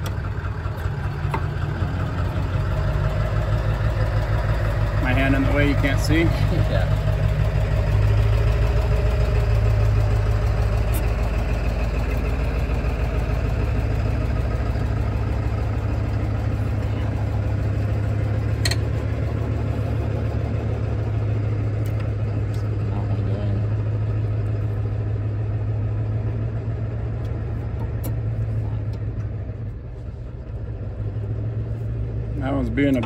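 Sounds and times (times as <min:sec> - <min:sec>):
low mechanical drone: 0:00.0 - 0:33.0.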